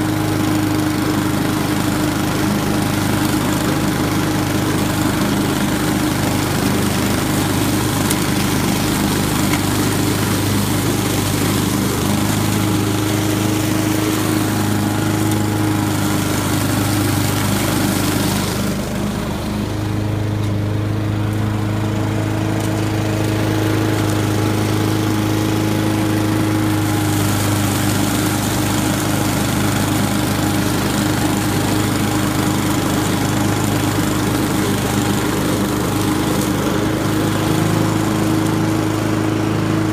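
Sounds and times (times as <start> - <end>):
lawn mower engine running: 0.0 - 39.9
mower cutting through leaves: 0.0 - 39.9.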